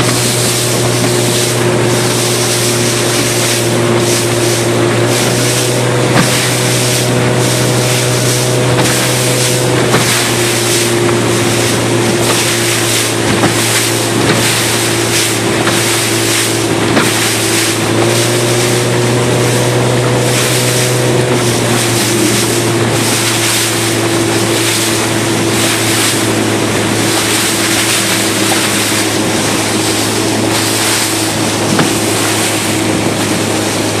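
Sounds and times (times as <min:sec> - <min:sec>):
motorboat engines droning: 0:00.0 - 0:34.0
spray and bow wash rushing: 0:00.0 - 0:34.0
wind buffeting microphone: 0:00.0 - 0:34.0.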